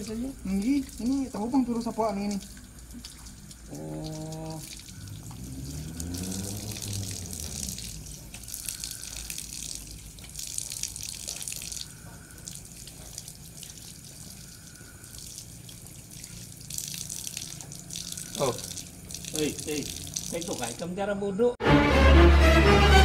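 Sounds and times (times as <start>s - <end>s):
water running from a tap: 0.0s - 21.0s
water splashing: 0.0s - 21.0s.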